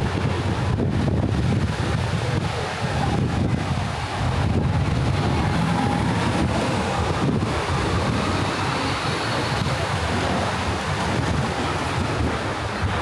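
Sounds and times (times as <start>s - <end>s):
passing road traffic: 0.0s - 13.0s
wind buffeting microphone: 0.0s - 13.0s.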